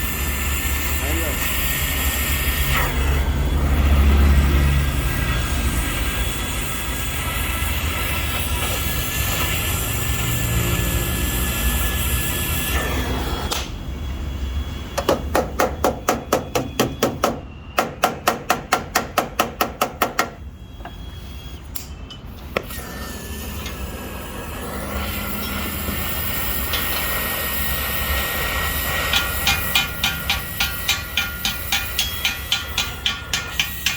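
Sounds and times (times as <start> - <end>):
steady background noise: 0.0 - 33.9.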